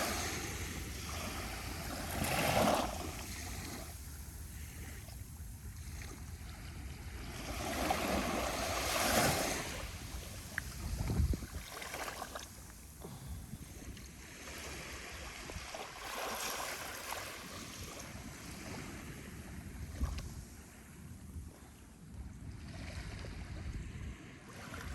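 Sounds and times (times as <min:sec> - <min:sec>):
gentle waves washing on beach: 0:00.0 - 0:24.9
wind rumble on microphone: 0:00.0 - 0:24.9.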